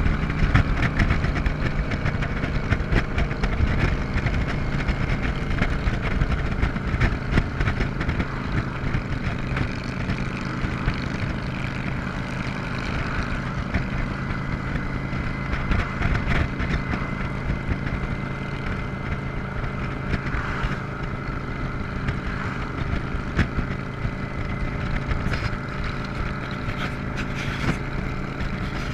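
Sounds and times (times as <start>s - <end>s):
motorcycle engine cruising: 0.0s - 28.9s
wind noise: 0.0s - 28.9s.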